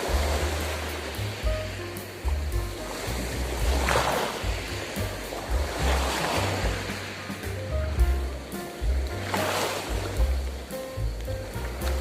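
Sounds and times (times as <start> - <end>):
music with deep bass line: 0.0 - 12.0
surf washing on beach: 0.0 - 12.0.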